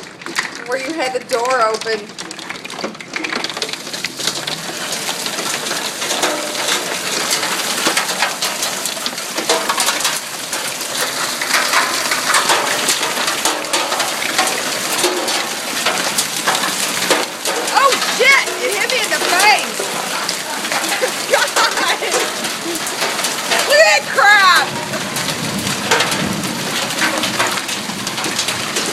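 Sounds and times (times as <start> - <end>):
hail clattering on hard surfaces: 0.0 - 28.9.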